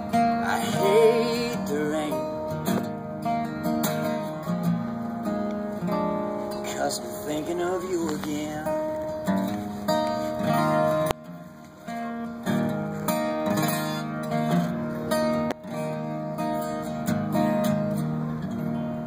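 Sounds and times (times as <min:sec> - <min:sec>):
acoustic guitar chords ringing: 0:00.0 - 0:19.0.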